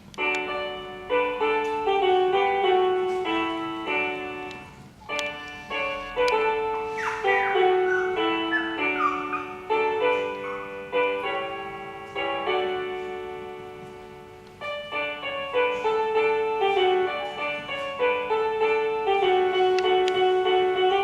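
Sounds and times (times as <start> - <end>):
piano-like keyboard chords: 0.0 - 21.0.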